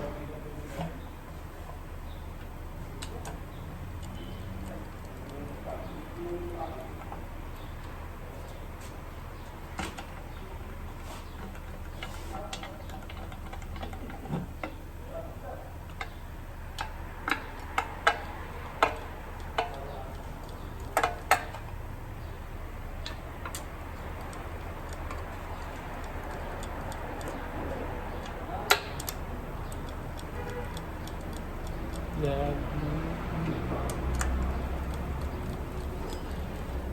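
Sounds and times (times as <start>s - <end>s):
metal tool clicks and taps: 2.4s - 8.6s, 11.4s - 14.8s, 15.9s - 22.4s, 23.0s - 36.9s.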